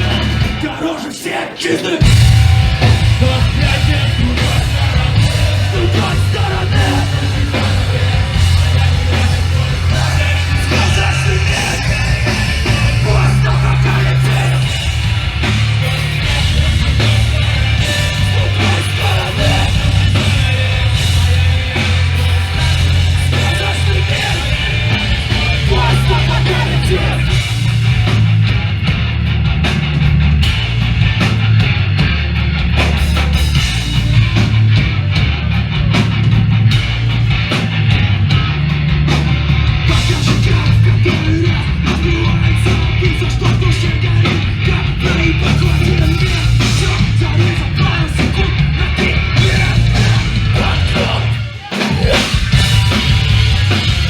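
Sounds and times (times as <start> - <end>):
drum kit: 0.0 - 0.9, 2.0 - 54.0
distorted electric guitars: 0.0 - 1.3, 1.9 - 54.0
punk band playing: 0.0 - 54.0.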